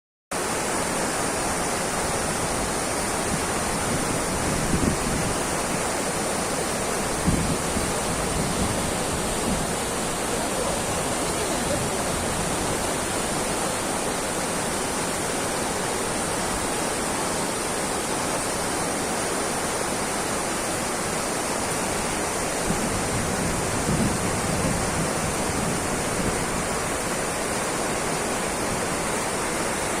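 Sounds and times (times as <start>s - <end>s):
waterfall rushing: 0.4s - 30.0s.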